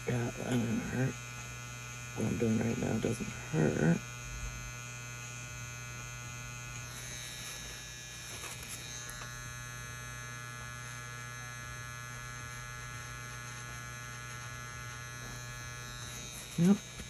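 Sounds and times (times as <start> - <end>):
tattoo machine humming: 0.0 - 17.0.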